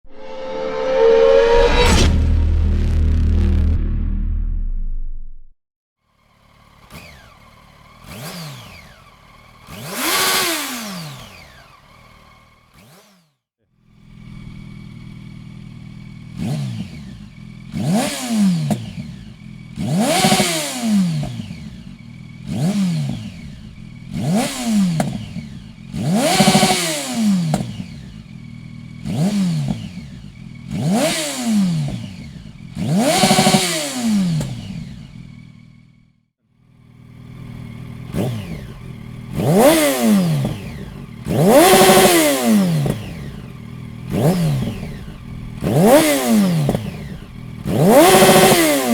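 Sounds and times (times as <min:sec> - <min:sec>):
motorcycle engine idling: 0:06.1 - 0:33.6, 0:34.2 - 0:48.9
motorcycle engine revving: 0:06.1 - 0:48.9.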